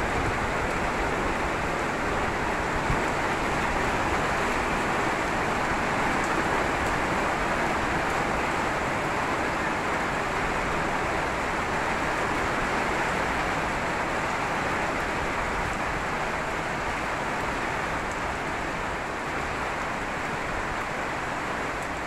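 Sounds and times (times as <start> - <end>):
heavy rain on patio: 0.0 - 22.0.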